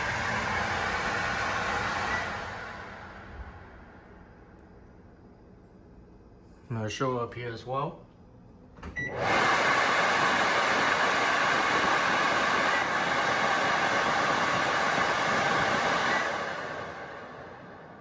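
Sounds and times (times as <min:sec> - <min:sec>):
microwave vent fan running: 0:00.0 - 0:18.0.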